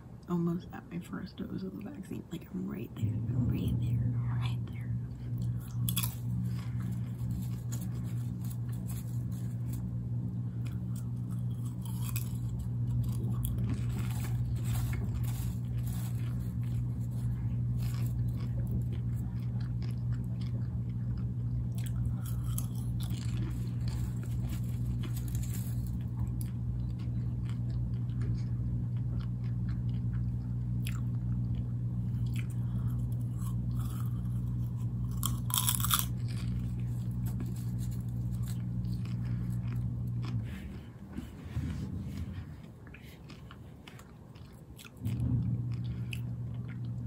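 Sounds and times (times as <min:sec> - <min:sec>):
steady low hum: 0:00.0 - 0:47.0
popcorn being chewed: 0:00.1 - 0:47.0.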